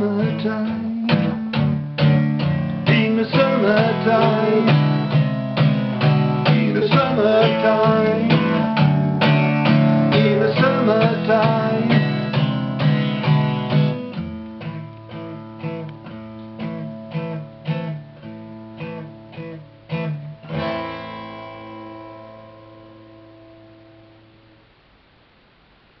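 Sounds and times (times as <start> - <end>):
acoustic guitar strumming: 0.0 - 24.6.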